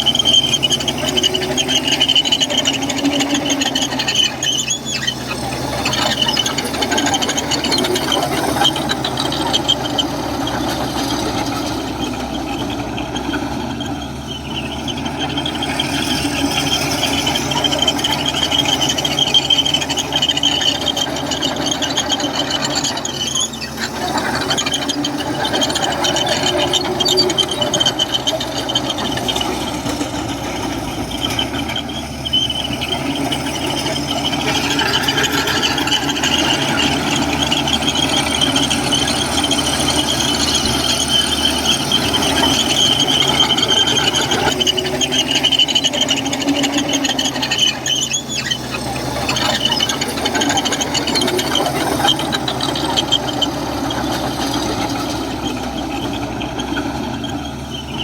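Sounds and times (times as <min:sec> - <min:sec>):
bulldozer tracks squealing: 0:00.0 - 0:58.0
diesel engine running: 0:00.0 - 0:58.0.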